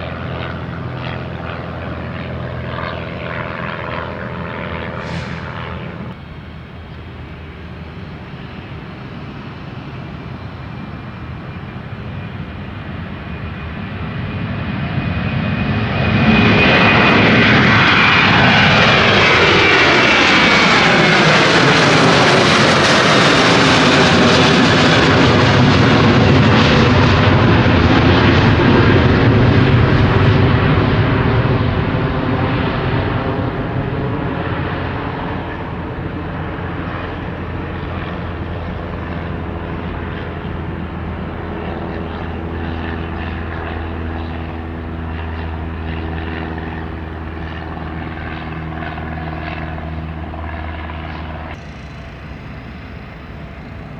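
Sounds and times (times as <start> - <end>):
airplane passing close by: 0.0 - 53.9
low engine drone: 0.0 - 53.9.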